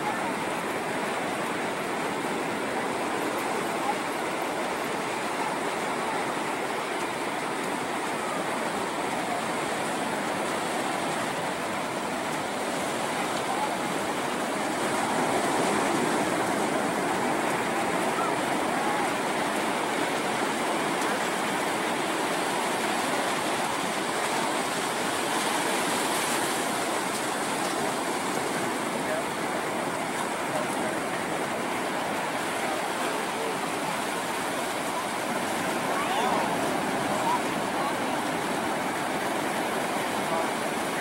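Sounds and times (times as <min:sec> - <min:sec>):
waves breaking on beach: 0:00.0 - 0:41.0.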